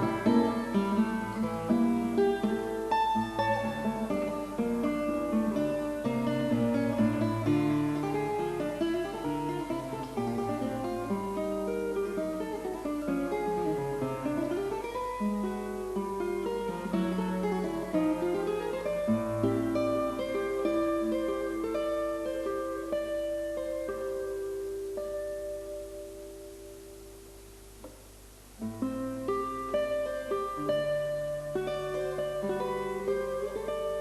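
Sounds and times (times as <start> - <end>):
plucked guitar melody: 0.0 - 34.0.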